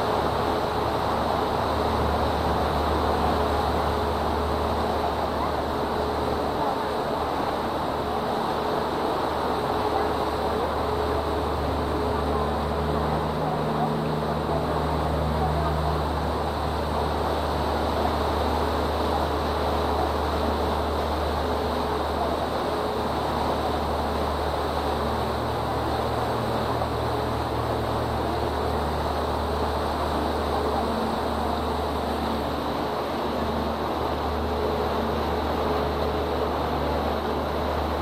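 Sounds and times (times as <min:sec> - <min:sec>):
boat engine humming: 0:00.0 - 0:38.0.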